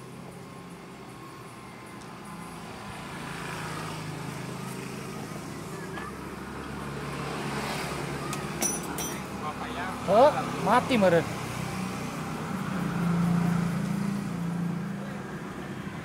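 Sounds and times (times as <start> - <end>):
vehicle engine running close by: 0.0 - 8.6, 9.3 - 16.0
street traffic: 0.0 - 16.0.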